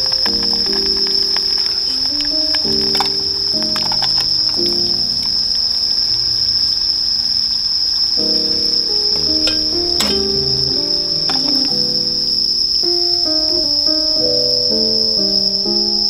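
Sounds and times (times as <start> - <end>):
crickets chirring: 0.0 - 16.0
soft background music: 0.0 - 16.0.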